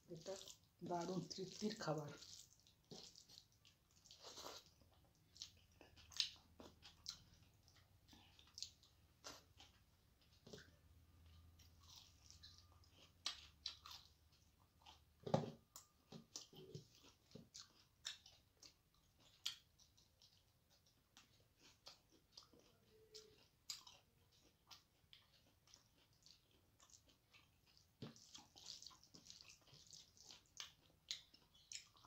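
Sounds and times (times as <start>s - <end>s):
person chewing with mouth smacks: 0.0s - 32.0s.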